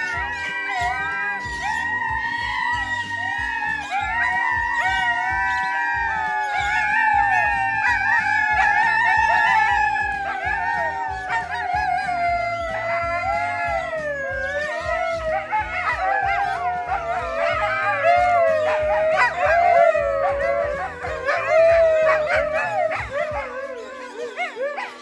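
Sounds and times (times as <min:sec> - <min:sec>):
dingoes howling: 0:00.0 - 0:25.0
low music beat: 0:00.0 - 0:25.0.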